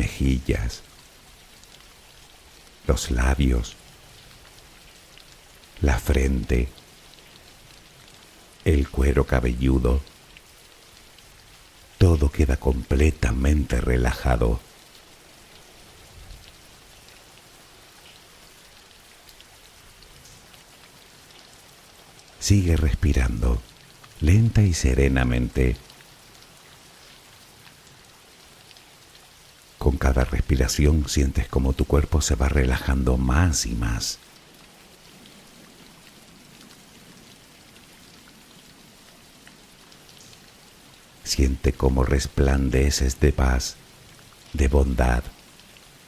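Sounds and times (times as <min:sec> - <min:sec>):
soft rain pattering: 0:00.0 - 0:46.0.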